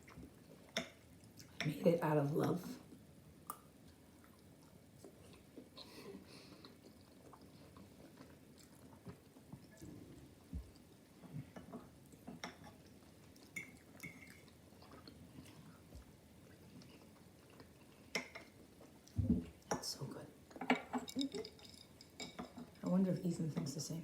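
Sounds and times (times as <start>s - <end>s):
soft chewing: 0.0s - 1.7s, 2.8s - 19.8s, 20.4s - 22.8s.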